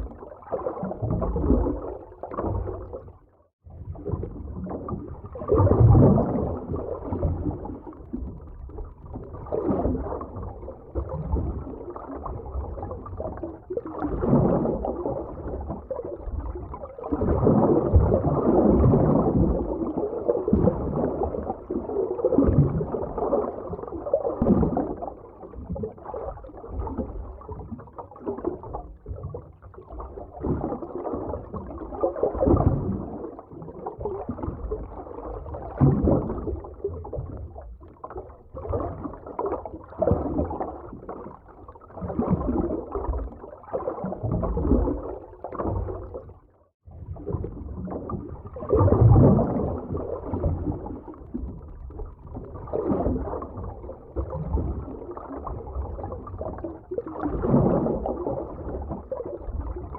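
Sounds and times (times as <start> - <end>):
underwater bubbling: 0.0 - 59.9
underwater water movement: 0.0 - 59.9.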